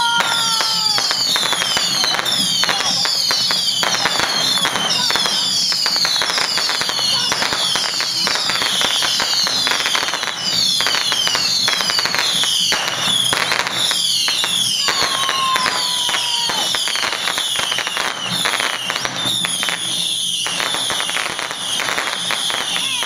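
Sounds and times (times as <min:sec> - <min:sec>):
high falling whistles: 0:00.0 - 0:06.9, 0:07.7 - 0:23.0
firecrackers crackling: 0:00.0 - 0:23.0.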